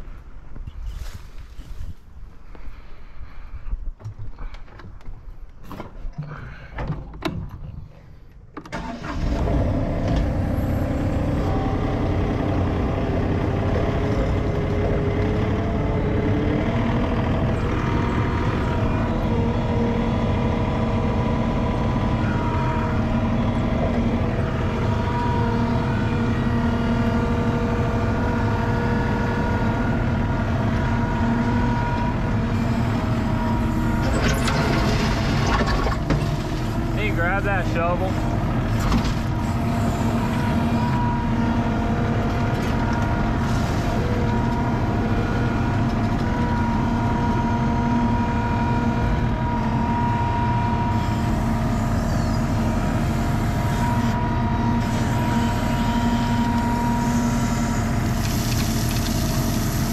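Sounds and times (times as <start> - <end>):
diesel engine starting and running: 0.0 - 59.9.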